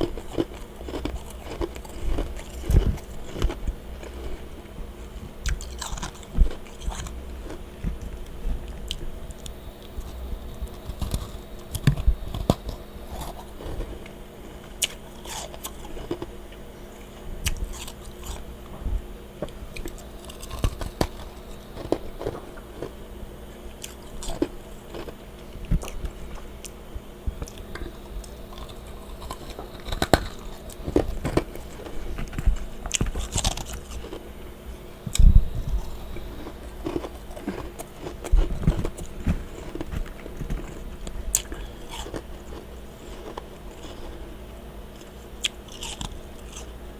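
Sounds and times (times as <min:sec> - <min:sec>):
person chewing crunchy frost: 0:00.0 - 0:46.9.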